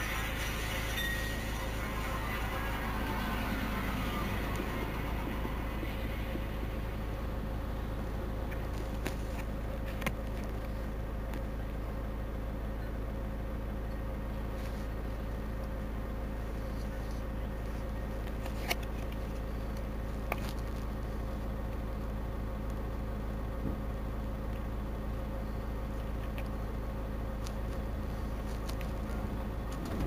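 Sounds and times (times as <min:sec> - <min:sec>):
bus engine running: 0:00.0 - 0:30.0.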